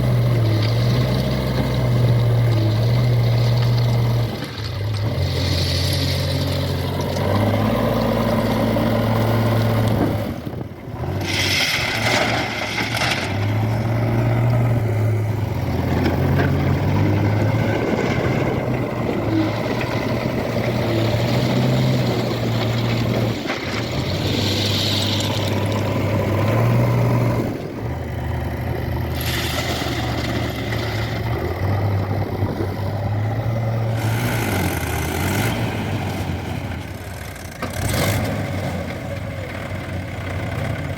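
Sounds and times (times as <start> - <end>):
diesel engines working: 0.0 - 40.9.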